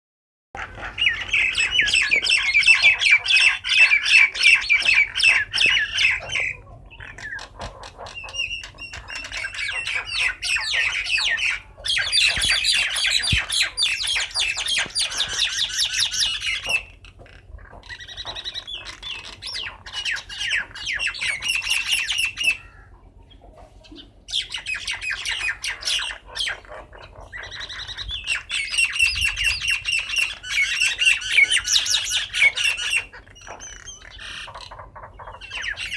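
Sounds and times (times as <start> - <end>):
birds squawking and chattering: 0.6 - 35.9.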